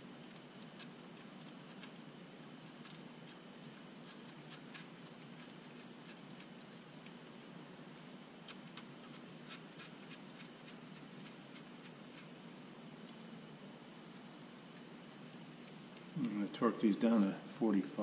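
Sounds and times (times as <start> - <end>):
faint hiss: 0.0 - 18.0.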